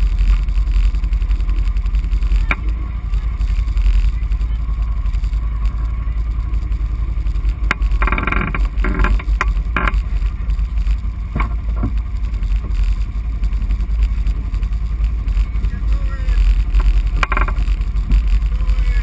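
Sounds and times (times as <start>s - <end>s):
atv engine idling: 0.0s - 19.0s.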